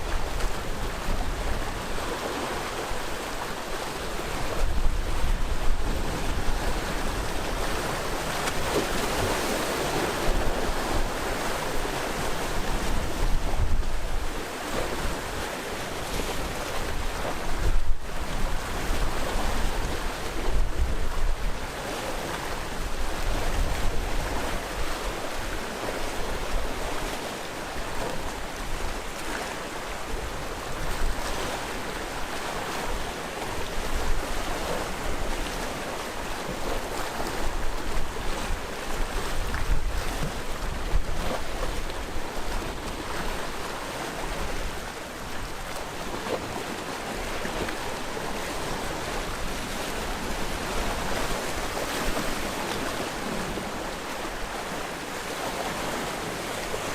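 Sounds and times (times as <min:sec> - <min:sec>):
wind rumble on microphone: 0:00.0 - 0:54.6
sea waves breaking on rocks: 0:00.0 - 0:56.9.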